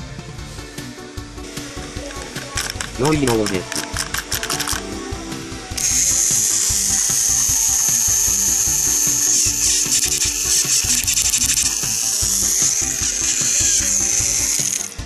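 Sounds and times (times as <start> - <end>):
background music: 0.0 - 15.0
toy train motor whirring: 1.6 - 4.9, 5.7 - 15.0.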